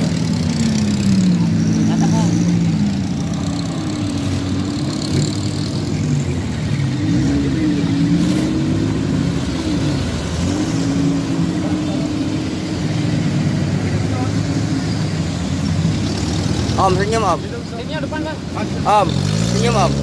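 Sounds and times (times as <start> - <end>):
off-road vehicle engines revving: 0.0 - 20.0.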